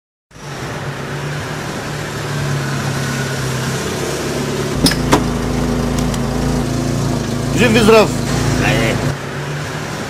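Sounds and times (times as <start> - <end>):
car engine humming: 0.4 - 10.0.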